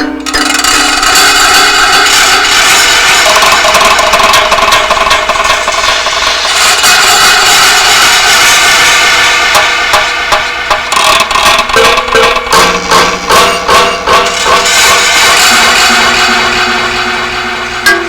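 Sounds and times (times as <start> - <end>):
dense electronic noise drone: 0.0 - 18.0.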